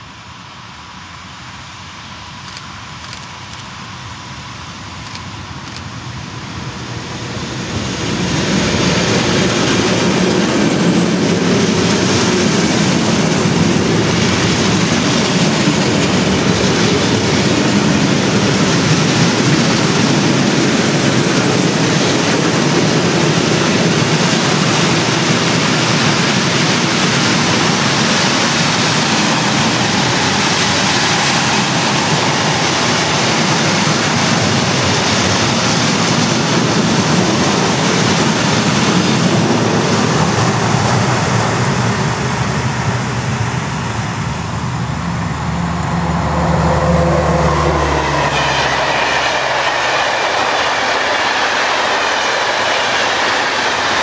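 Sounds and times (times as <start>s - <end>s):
electric locomotive passing: 0.0s - 54.0s.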